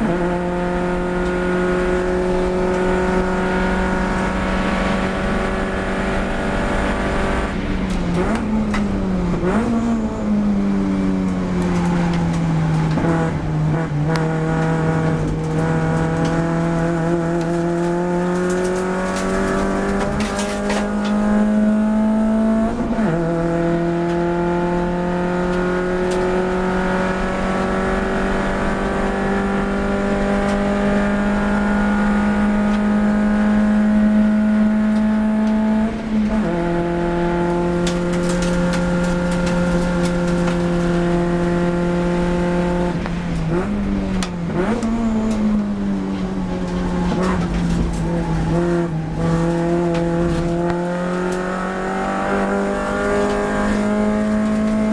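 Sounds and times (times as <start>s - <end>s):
car engine accelerating: 0.0s - 54.9s
gear changes: 0.0s - 54.9s.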